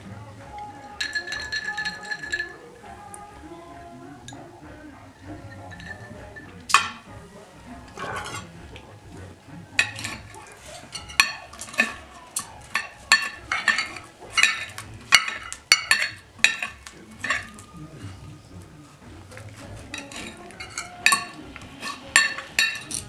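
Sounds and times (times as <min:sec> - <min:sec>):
cutlery clinking on a plate: 0:00.0 - 0:03.3, 0:04.2 - 0:04.6, 0:05.2 - 0:18.3, 0:19.0 - 0:23.0.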